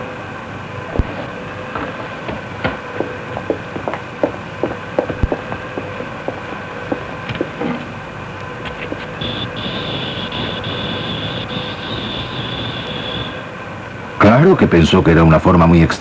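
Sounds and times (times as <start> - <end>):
machine hum: 0.0 - 14.2.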